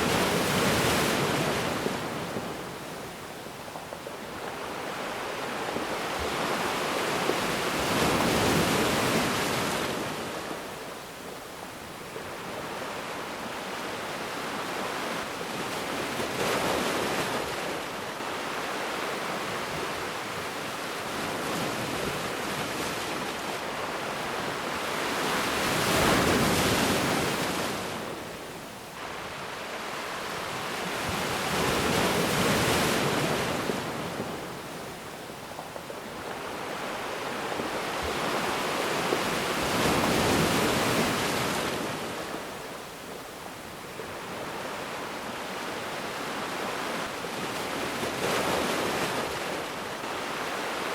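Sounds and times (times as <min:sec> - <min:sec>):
ocean waves breaking on beach: 0:00.0 - 0:50.9.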